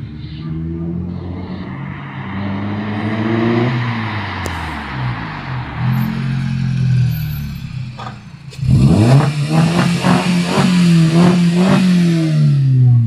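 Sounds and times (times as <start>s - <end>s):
car engine exhaust revving: 0.0s - 13.0s.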